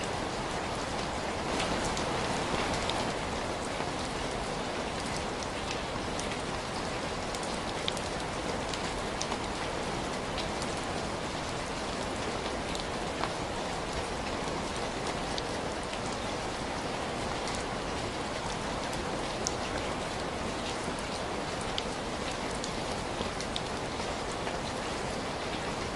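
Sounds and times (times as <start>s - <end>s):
steady rainfall: 0.0s - 25.9s.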